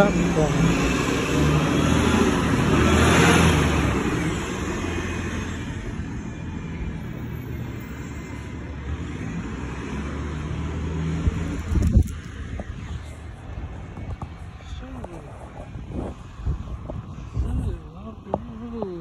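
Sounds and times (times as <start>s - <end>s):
bus passing by: 0.0s - 19.0s
low street rumble: 0.0s - 19.0s.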